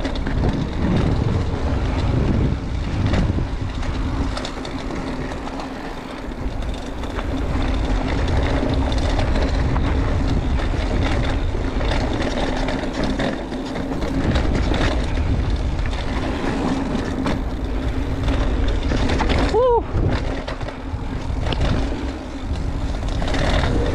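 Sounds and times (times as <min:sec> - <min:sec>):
bike knocking and rattling: 0:00.0 - 0:23.9
tyres rumbling over dirt: 0:00.0 - 0:23.9
wind buffeting microphone: 0:00.0 - 0:23.9.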